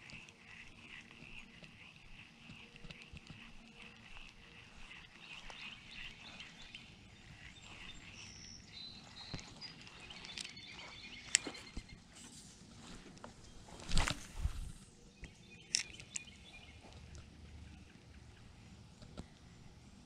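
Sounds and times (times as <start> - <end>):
faint bird chirps: 0.0 - 12.3, 13.4 - 19.6
steady high hum: 0.0 - 20.0.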